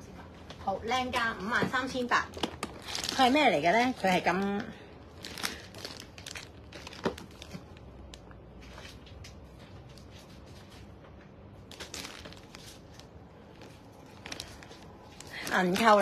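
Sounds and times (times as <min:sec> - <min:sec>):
plastic wrap crinkling: 0:01.0 - 0:16.0.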